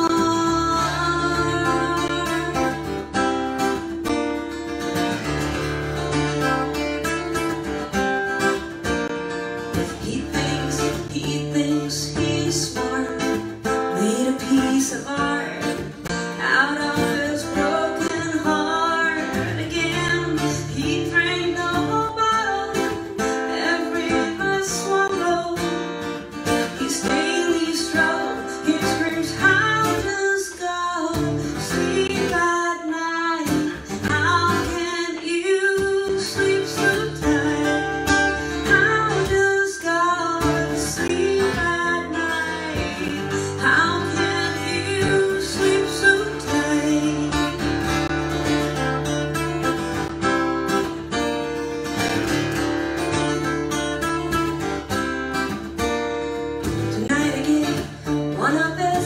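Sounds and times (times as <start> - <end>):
woman singing: 0.0 - 4.2, 9.7 - 51.2, 56.3 - 59.0
acoustic guitar strumming: 0.0 - 59.0.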